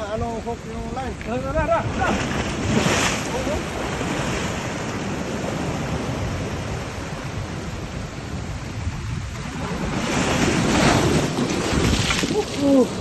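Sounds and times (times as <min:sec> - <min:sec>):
surf washing over rocks: 0:00.0 - 0:13.0
wind rumbling on microphone: 0:00.0 - 0:13.0.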